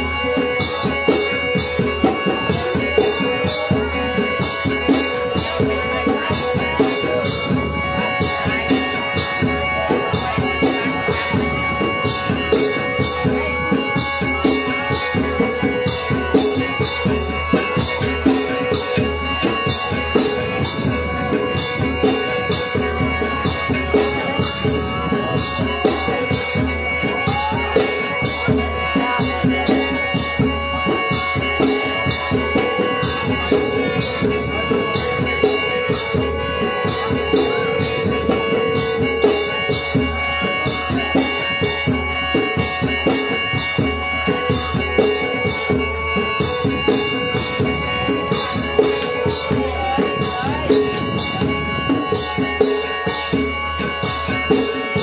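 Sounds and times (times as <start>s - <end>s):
fast drum beat: 0.0s - 55.0s
rattling percussion: 0.0s - 55.0s
steady held tones: 0.0s - 55.0s.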